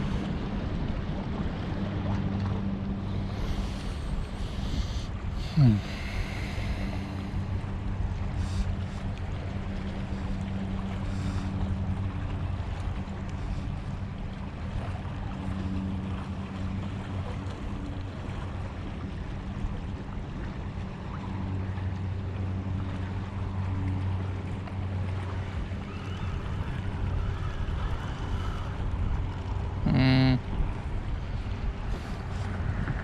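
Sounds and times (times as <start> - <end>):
boat engine humming: 0.0 - 33.0
water noise: 0.0 - 33.0
wind: 0.0 - 33.0.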